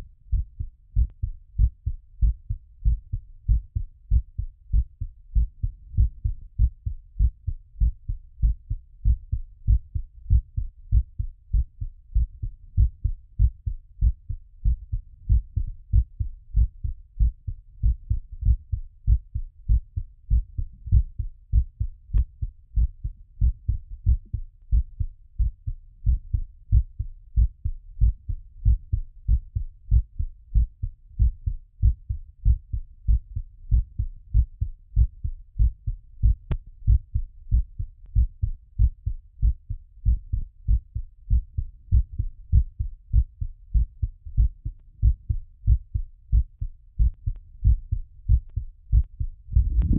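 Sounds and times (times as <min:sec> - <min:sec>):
heartbeat through stethoscope: 0:00.0 - 0:49.9.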